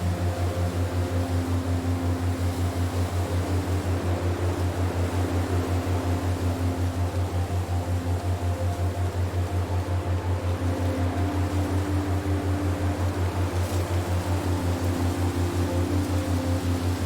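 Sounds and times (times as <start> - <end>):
pulsing low hum: 0.0 - 17.0
wind hiss: 0.0 - 17.0.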